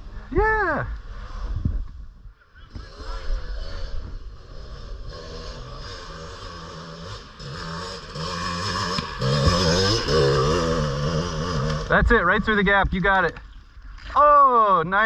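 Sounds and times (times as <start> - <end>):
dirt bike engine climbing: 1.0 - 14.2.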